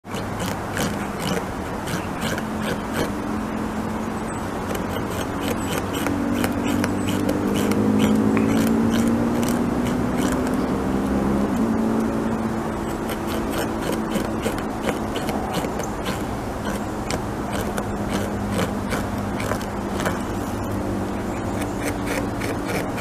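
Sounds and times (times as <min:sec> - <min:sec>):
beaver gnawing wood: 0:00.0 - 0:03.2, 0:04.6 - 0:10.7, 0:11.5 - 0:23.0
low droning hum: 0:00.0 - 0:23.0.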